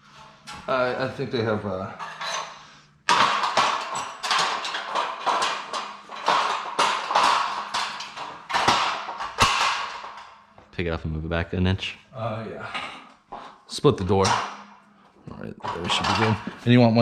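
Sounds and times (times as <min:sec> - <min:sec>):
metal scaffolding parts clanking: 0:00.0 - 0:10.6, 0:12.6 - 0:17.0.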